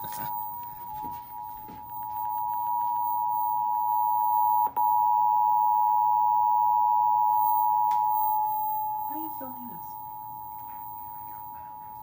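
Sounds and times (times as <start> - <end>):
two-tone alert alarm: 0.0 - 12.0.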